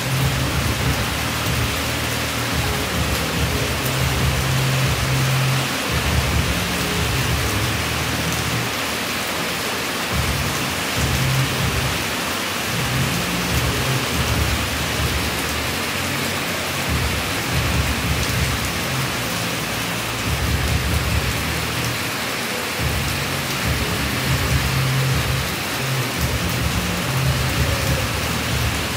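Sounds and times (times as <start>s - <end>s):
heavy pouring rain: 0.0s - 28.9s.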